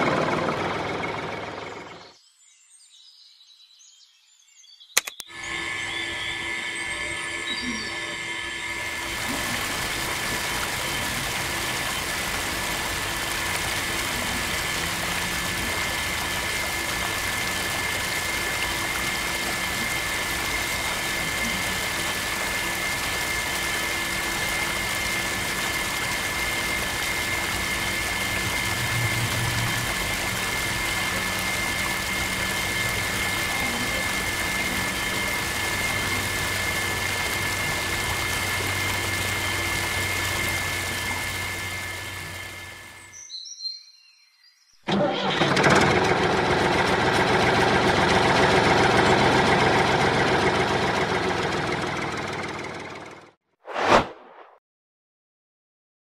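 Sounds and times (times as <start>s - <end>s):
small water pump motor whining: 0.0s - 2.1s, 5.0s - 43.2s, 44.9s - 53.4s.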